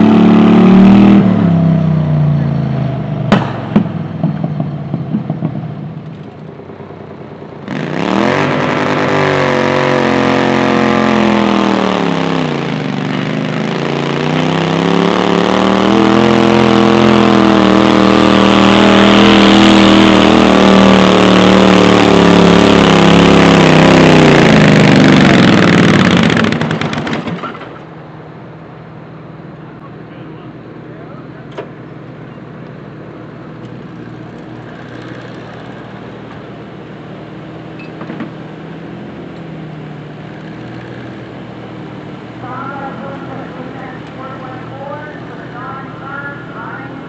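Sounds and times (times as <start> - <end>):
tractor engine at full throttle: 0.0 - 47.0.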